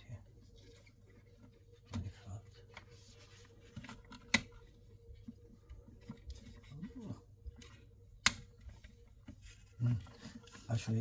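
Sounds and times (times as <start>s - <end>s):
handling noises on wall socket: 0.8s - 6.9s, 7.5s - 10.6s.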